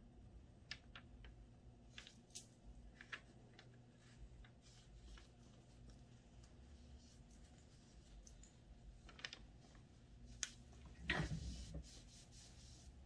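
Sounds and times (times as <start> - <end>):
faint paper crackles: 0.7 - 13.0.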